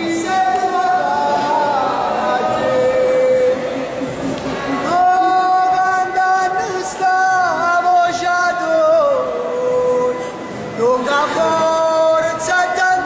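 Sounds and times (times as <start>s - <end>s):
person singing a lament: 0.0s - 3.9s, 4.8s - 13.0s.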